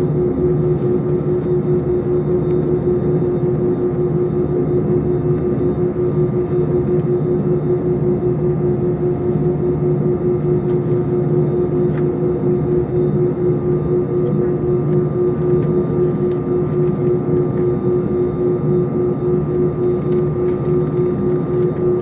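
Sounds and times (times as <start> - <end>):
airplane engines droning in cabin: 0.0 - 22.0.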